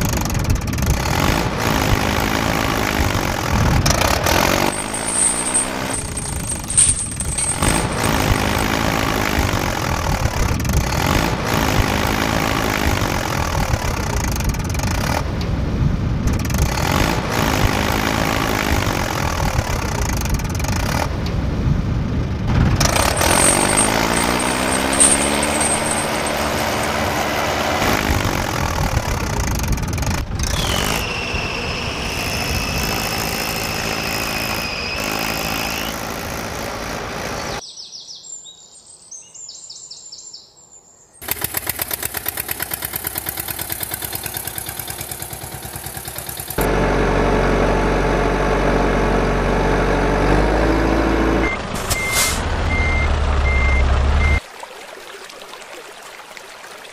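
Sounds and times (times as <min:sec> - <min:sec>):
engine running in fast pulses: 0:00.0 - 0:15.4, 0:16.2 - 0:21.4, 0:22.5 - 0:37.6, 0:41.2 - 0:54.4
heavy deep engine: 0:00.0 - 0:37.6, 0:41.2 - 0:54.4
engine revving: 0:00.7 - 0:15.3, 0:16.3 - 0:21.2, 0:22.5 - 0:37.6, 0:41.2 - 0:54.4.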